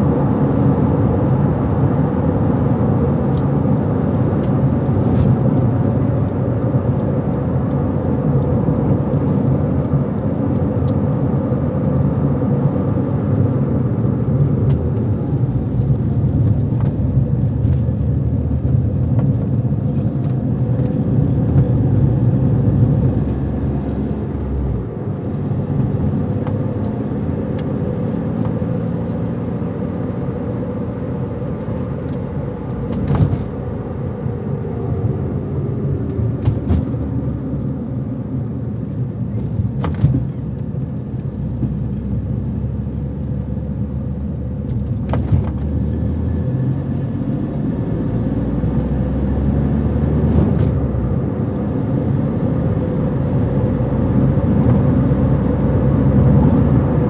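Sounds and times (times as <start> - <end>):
car engine running: 0.0 - 57.0
car tyres on road: 0.0 - 57.0.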